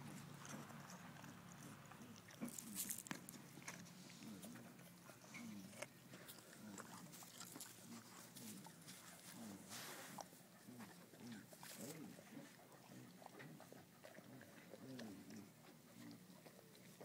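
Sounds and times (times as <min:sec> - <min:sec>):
dog crunching an apple: 0:00.0 - 0:17.0
low dog sounds: 0:00.0 - 0:17.0.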